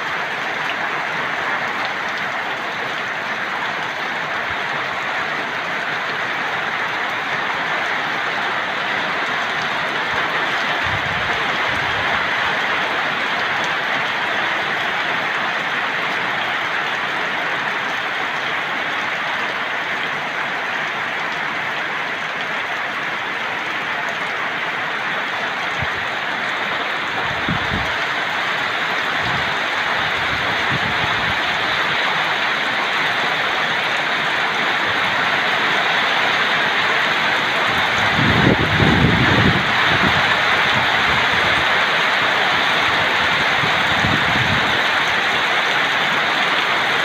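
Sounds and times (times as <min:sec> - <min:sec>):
heavy rain hissing: 0:00.0 - 0:47.0.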